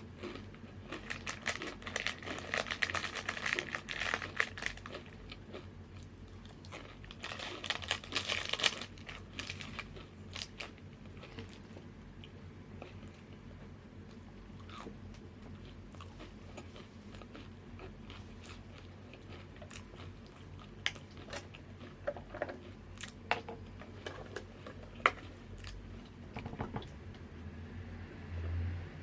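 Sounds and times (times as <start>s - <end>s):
crunchy chips being chewed: 0.0s - 26.2s.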